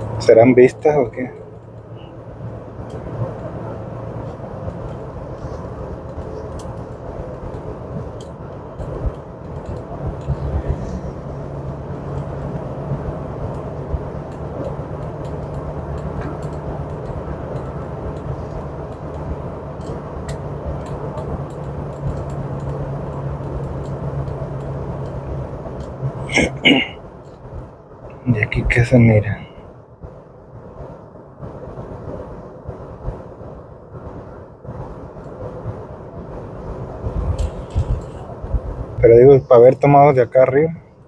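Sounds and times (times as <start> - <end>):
car cabin road and engine noise: 0.0 - 41.0
low steady hum: 0.0 - 41.0.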